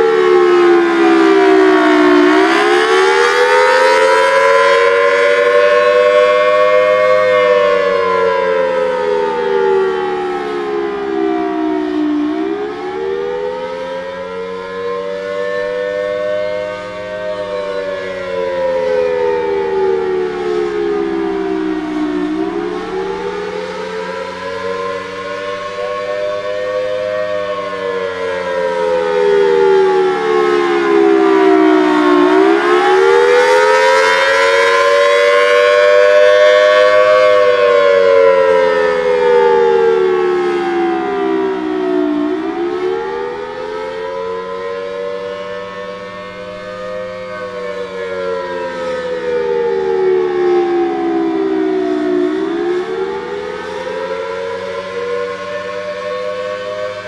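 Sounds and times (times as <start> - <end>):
warning siren slow wail: 0.0 - 57.0.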